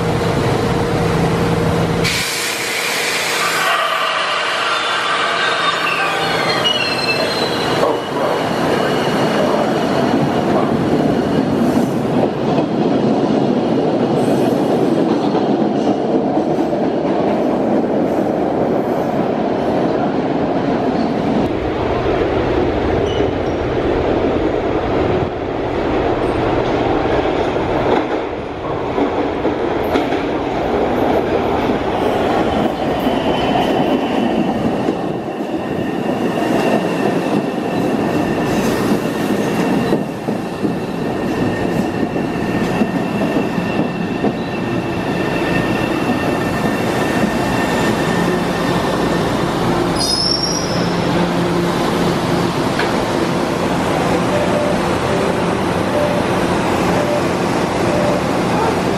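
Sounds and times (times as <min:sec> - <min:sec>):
subway train rumbling on rails: 0:00.0 - 0:58.9.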